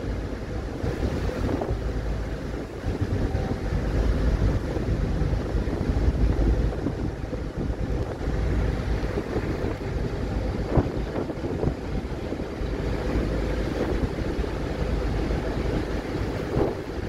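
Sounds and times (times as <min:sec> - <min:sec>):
ferry engine rumble: 0:00.0 - 0:17.0
water wash: 0:00.0 - 0:17.0
wind buffeting microphone: 0:00.0 - 0:17.0.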